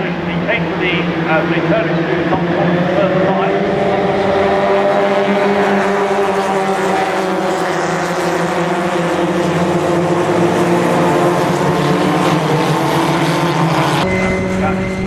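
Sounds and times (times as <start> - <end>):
racing car engines: 0.0 - 15.0.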